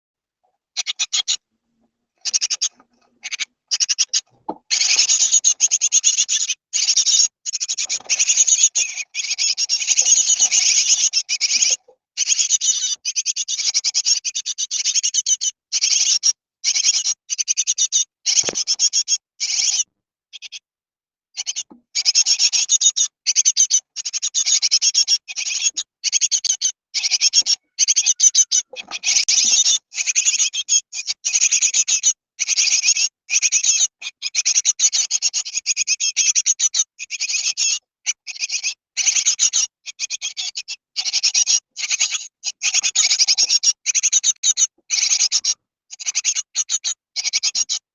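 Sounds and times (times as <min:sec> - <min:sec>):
nestlings begging with raspy calls: 0:00.7 - 0:01.4, 0:02.2 - 0:20.6, 0:21.3 - 0:47.9.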